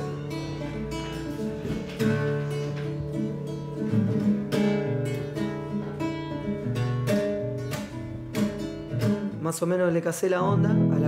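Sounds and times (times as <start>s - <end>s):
acoustic guitar chords ringing: 0.0s - 11.0s.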